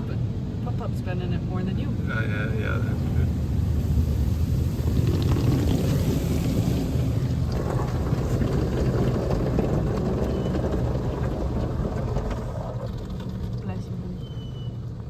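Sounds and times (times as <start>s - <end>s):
car wash water spray and machinery: 0.0s - 15.0s.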